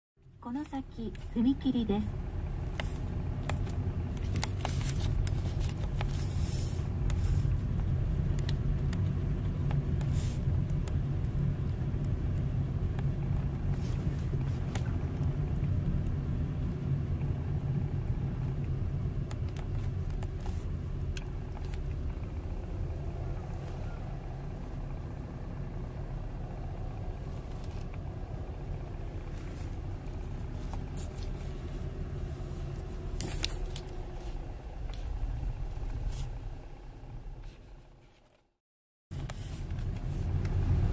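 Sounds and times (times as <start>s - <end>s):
engine and tyres rumbling: 0.2s - 40.9s.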